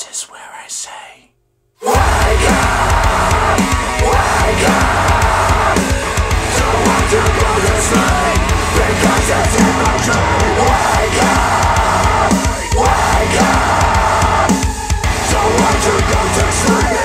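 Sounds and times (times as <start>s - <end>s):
death metal over speakers: 1.8s - 17.0s.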